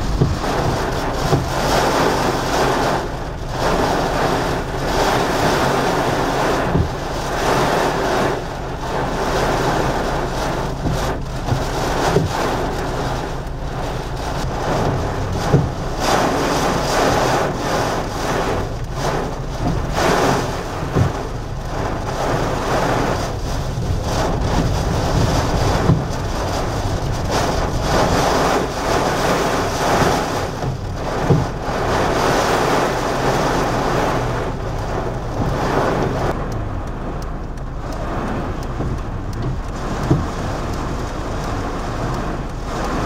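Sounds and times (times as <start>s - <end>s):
car engine and road noise: 0.0s - 43.0s
wind and heavy rain on car: 0.0s - 43.0s.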